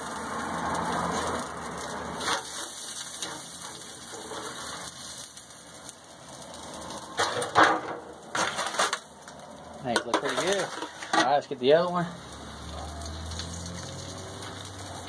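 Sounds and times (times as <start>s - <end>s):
crackling hiss from smoker: 0.0s - 15.0s.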